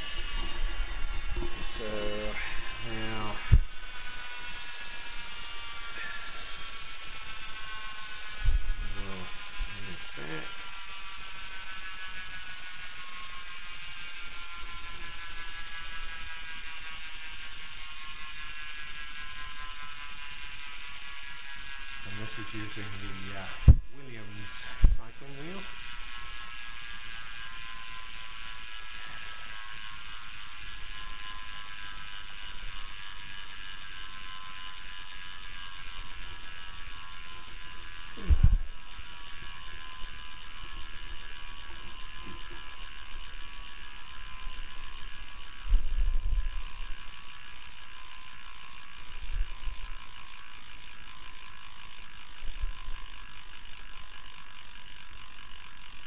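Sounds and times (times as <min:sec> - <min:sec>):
freehub ratcheting buzz: 0:00.0 - 0:56.0.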